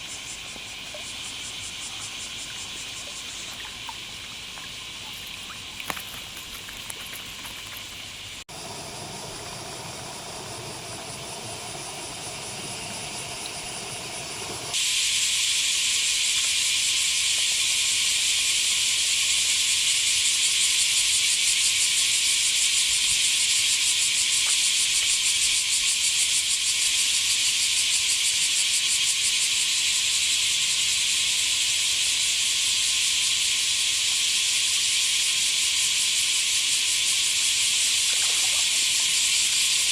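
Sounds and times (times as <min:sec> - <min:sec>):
cicadas pulsing chorus: 0:00.0 - 0:39.9.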